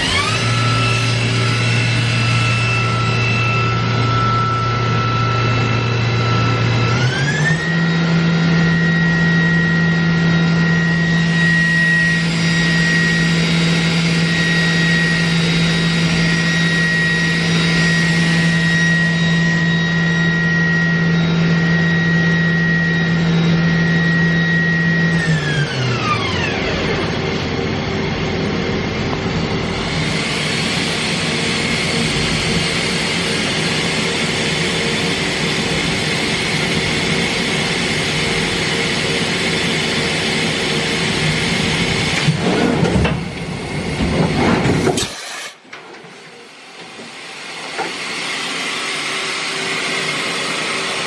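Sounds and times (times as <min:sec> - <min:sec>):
machine spindle whining: 0:00.0 - 0:51.0.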